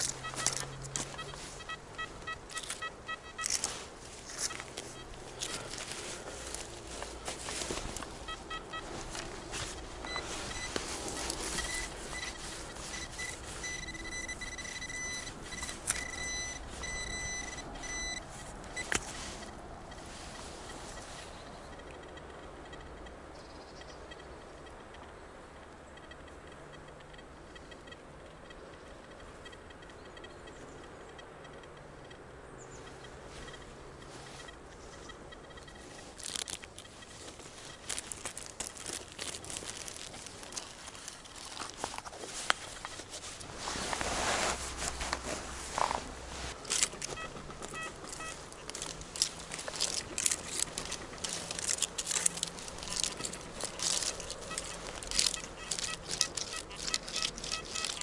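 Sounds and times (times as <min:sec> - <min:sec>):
soil and dry leaves crunching: 0:00.0 - 0:22.3, 0:32.7 - 0:58.0.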